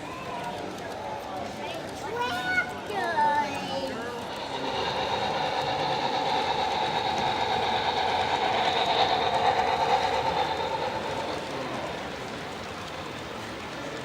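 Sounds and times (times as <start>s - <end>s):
model train motor whine: 0.0s - 14.0s
wheels clicking on track: 0.0s - 14.0s.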